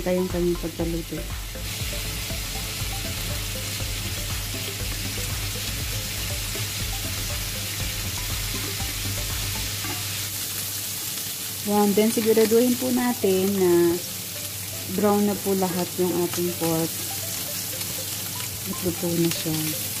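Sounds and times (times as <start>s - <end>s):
meat sizzling in a frying pan: 0.0s - 20.0s.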